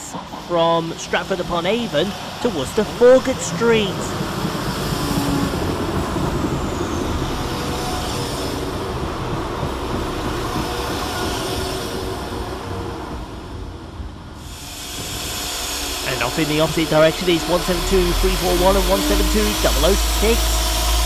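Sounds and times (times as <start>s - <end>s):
diesel train passing: 0.0s - 21.0s.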